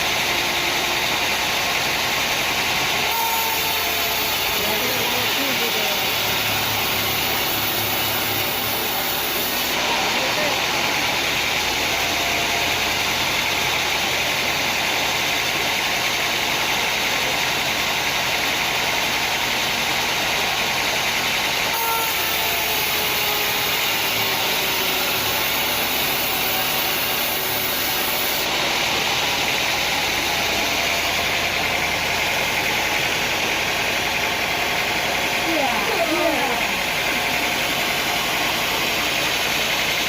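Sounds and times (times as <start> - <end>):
sawmill machinery drone: 0.0 - 40.0.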